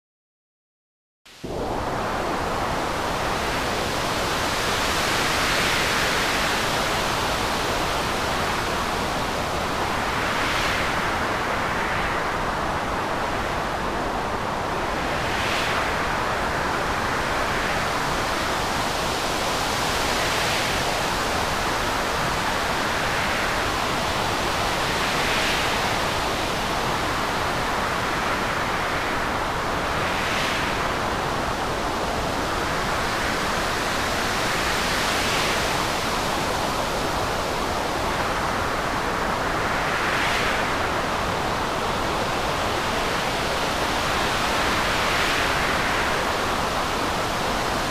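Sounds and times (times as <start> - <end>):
surf rushing: 1.4 - 47.9.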